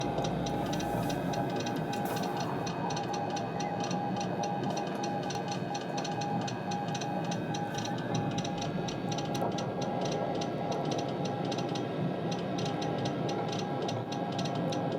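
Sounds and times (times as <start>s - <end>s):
steady background noise: 0.0s - 14.9s.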